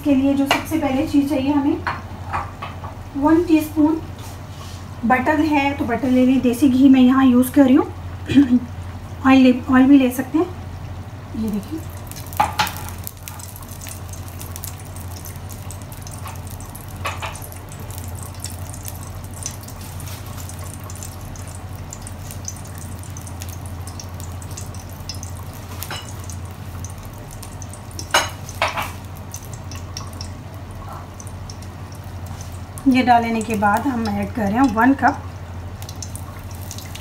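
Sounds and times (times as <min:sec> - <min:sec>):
ghee sizzling and crackling: 0:00.1 - 0:37.0.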